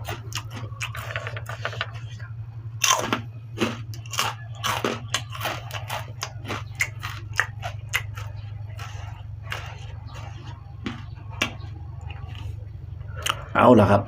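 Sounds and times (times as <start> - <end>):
crunching and chewing: 0.0 - 13.6
steady low hum: 0.0 - 14.0.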